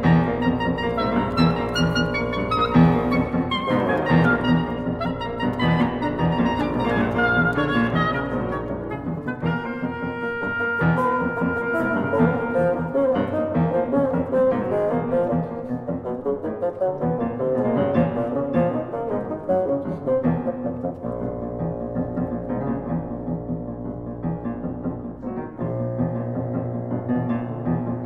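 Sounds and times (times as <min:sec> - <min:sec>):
chamber music oboe bassoon piano: 0:00.0 - 0:28.0.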